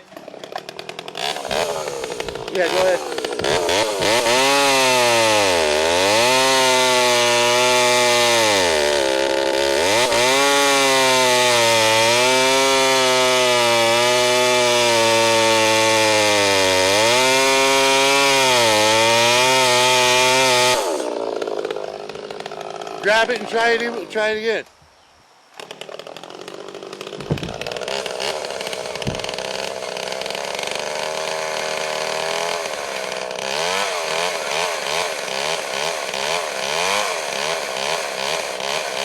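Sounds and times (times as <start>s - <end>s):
chainsaw cutting wood: 0.0s - 24.4s, 25.5s - 39.0s.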